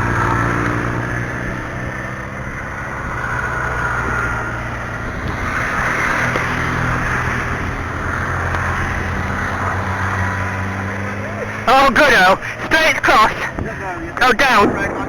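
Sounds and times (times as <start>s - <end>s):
farm machinery engine running: 0.0s - 15.0s.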